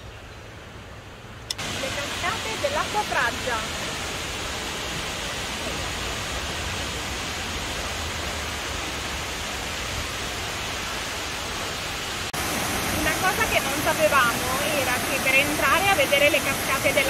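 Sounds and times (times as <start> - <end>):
waterfall rushing: 1.5 - 17.0.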